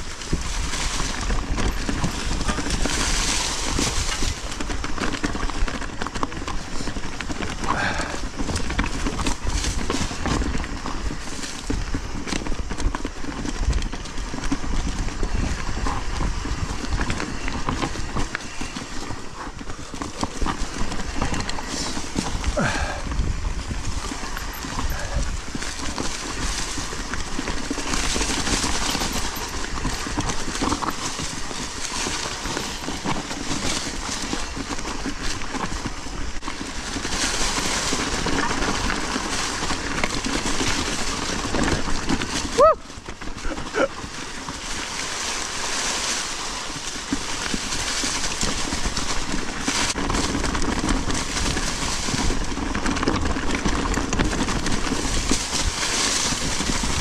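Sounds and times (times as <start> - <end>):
bike rattling over bumps: 0.0 - 57.0
wind rumble on microphone: 0.0 - 57.0.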